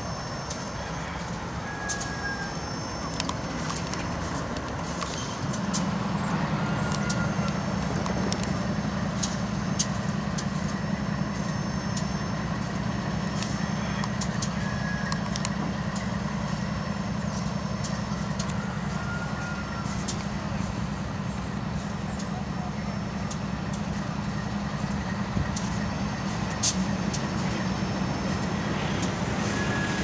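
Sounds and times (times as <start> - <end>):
diesel locomotive engine drone: 0.0 - 30.0.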